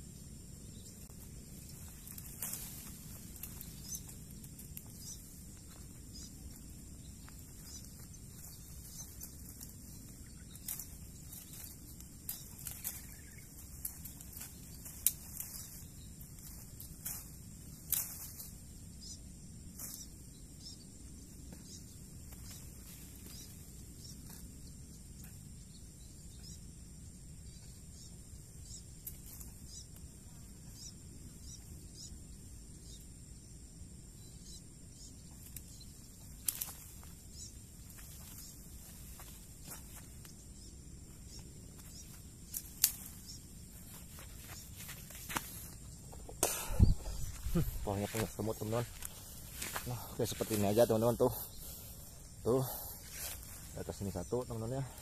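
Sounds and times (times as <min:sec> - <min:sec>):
leaves and twigs rustling: 0:00.0 - 0:32.4, 0:34.9 - 0:55.0
outdoor background noise: 0:00.0 - 0:55.0.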